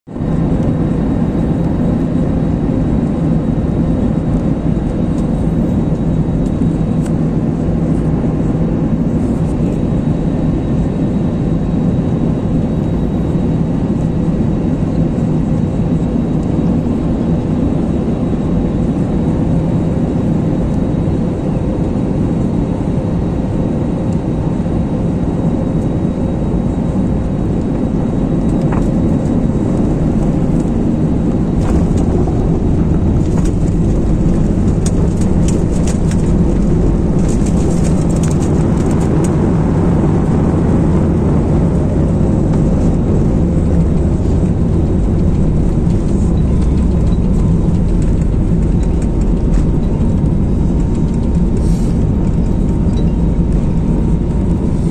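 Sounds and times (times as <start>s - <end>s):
jet engines droning in cabin: 0.1s - 54.9s.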